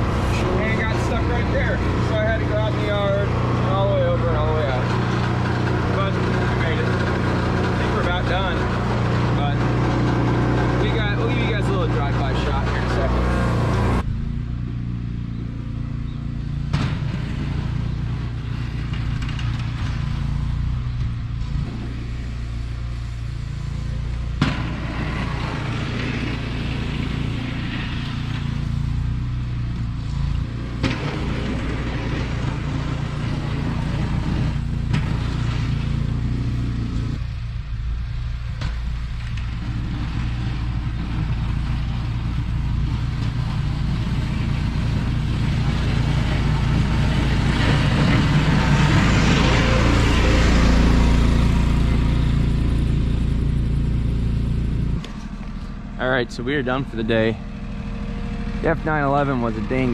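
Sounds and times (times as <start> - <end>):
mower engine running: 0.0 - 15.0, 21.4 - 37.1, 39.3 - 59.9.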